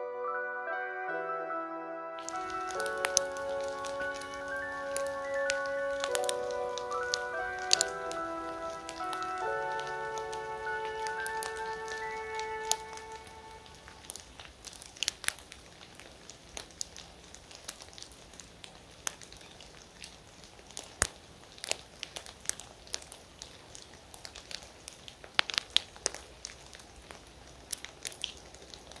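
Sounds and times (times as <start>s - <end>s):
sharp ticks and crackles: 2.2s - 29.0s.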